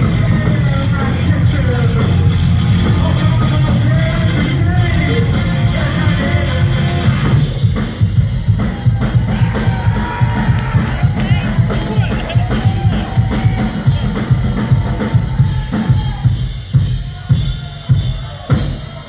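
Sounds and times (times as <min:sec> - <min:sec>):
drum kit beat: 0:00.0 - 0:19.0
noise-rock band playing live: 0:00.0 - 0:19.0.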